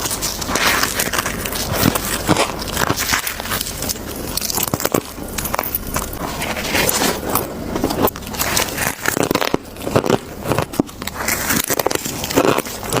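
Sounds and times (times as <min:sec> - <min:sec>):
frost being chewed: 0:00.0 - 0:13.0.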